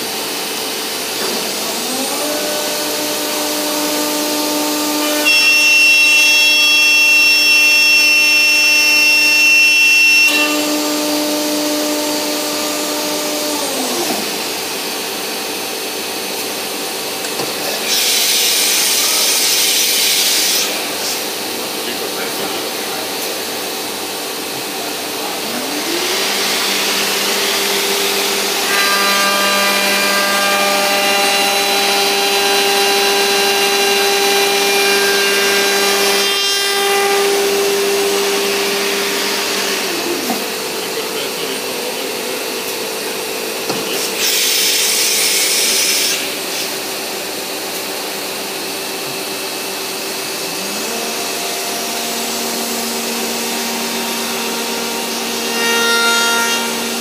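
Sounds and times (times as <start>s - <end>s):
cutter milling wood: 0.0s - 57.0s
router spindle whine: 0.0s - 57.0s.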